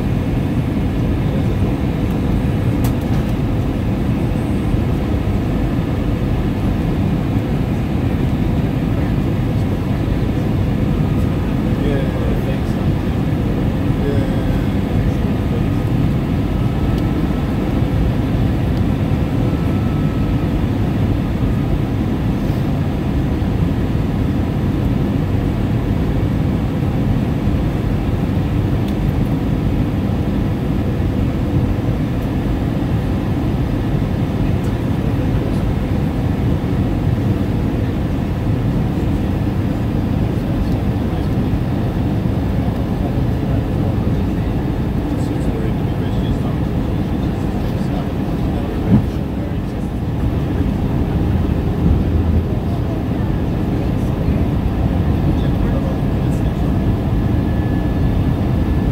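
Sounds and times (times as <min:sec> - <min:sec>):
jet airliner cabin rumble: 0:00.0 - 0:58.9.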